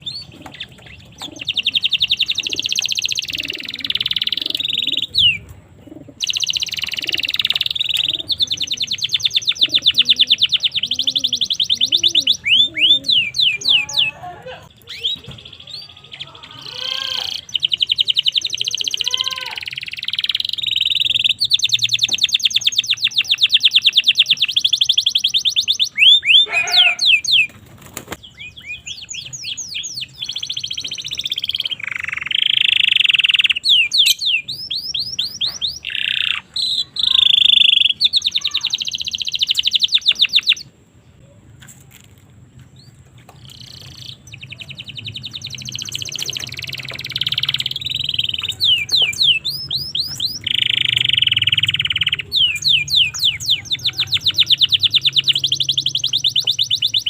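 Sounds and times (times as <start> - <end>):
canary singing trills: 0.0 - 41.4, 42.8 - 57.0.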